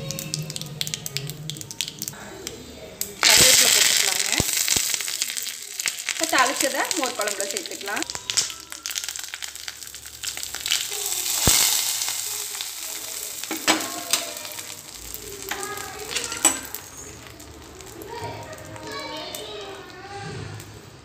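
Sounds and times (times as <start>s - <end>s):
hot oil sizzling and crackling: 0.0s - 20.9s.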